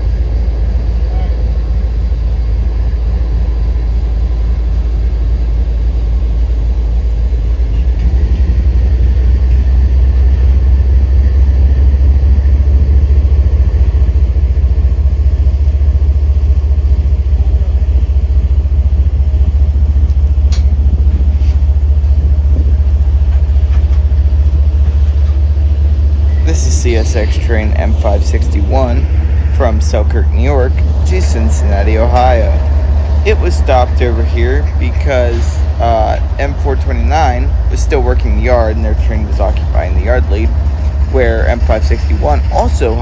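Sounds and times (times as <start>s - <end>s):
diesel locomotive rumbling: 0.0s - 43.0s.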